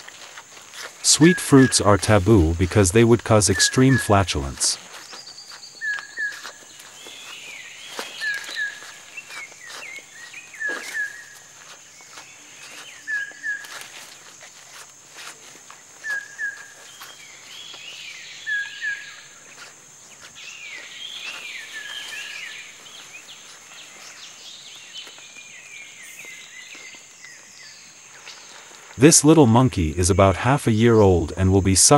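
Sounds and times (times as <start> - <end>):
birds falling chirps: 0.0 - 14.4, 15.8 - 29.4.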